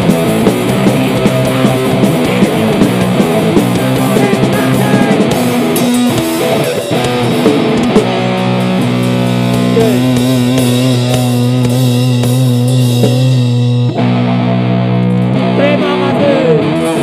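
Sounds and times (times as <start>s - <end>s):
bass guitar: 0.0s - 17.0s
distorted electric guitars: 0.0s - 17.0s
drums: 0.0s - 17.0s.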